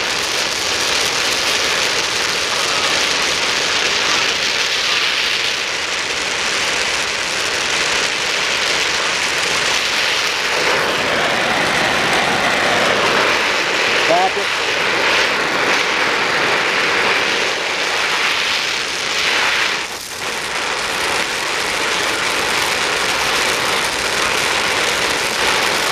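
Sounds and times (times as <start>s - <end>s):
torch flame hissing: 0.0s - 25.9s.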